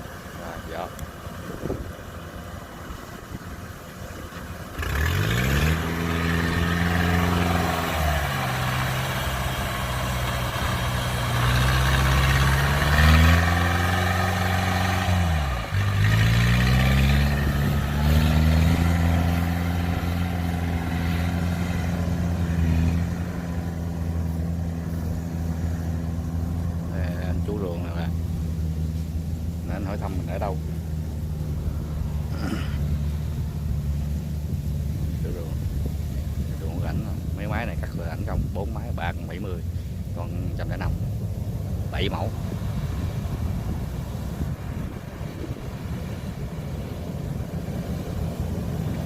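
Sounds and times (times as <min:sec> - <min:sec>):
diesel engine revving: 0:00.0 - 0:49.0.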